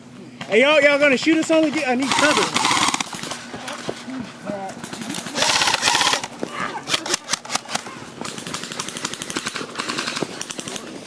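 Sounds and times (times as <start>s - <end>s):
airsoft guns firing: 0.4s - 4.0s, 4.8s - 11.0s.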